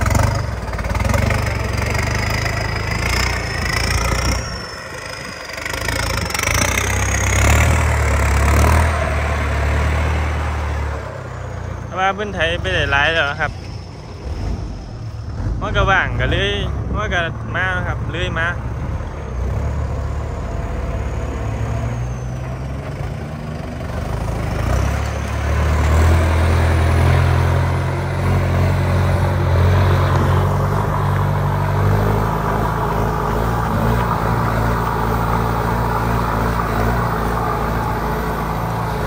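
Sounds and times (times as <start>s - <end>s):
tractor diesel engine: 0.0s - 39.0s.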